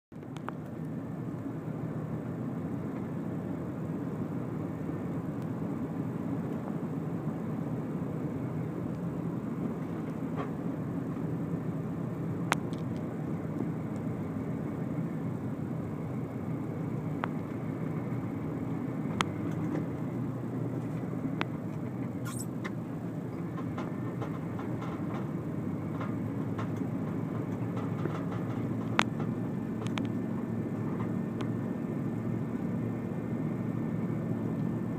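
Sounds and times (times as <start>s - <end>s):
car road and engine noise: 0.1s - 34.9s.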